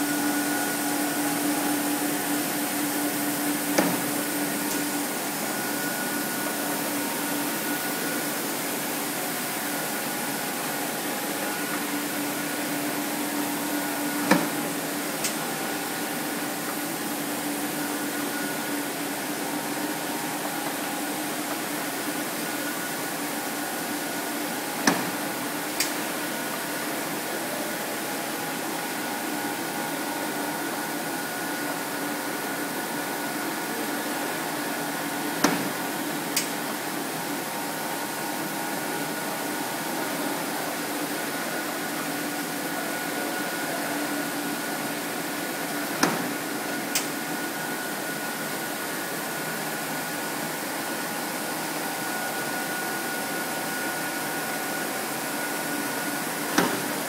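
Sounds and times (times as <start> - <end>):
machinery humming: 0.0 - 57.0.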